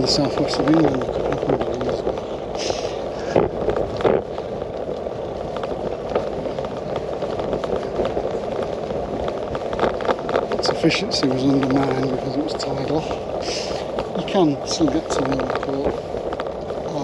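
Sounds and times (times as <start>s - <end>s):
bicycle tyre noise: 0.0s - 17.0s
small clicks and rattles: 0.0s - 17.0s
wind noise: 0.0s - 17.0s.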